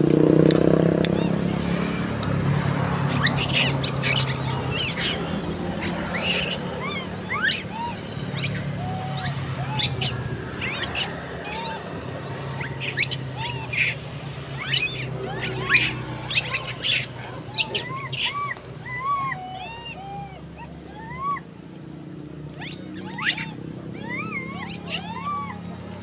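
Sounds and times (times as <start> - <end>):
monkey coos: 1.0 - 21.5, 22.5 - 26.0
monkeys squeaking and chirping: 1.0 - 26.0.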